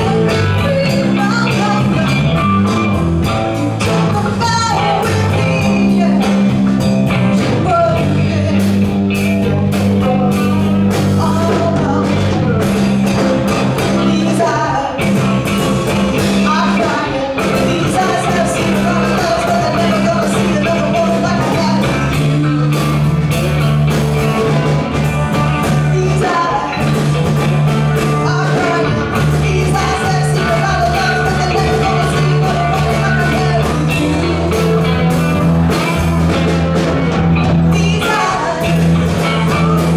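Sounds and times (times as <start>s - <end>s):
bass holding low notes: 0.0s - 39.9s
guitar: 0.0s - 39.9s
person singing: 0.0s - 39.9s
steady drum beat: 0.0s - 39.9s.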